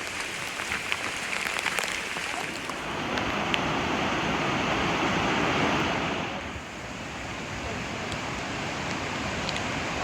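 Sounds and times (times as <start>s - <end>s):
rushing water roar: 0.0s - 10.0s.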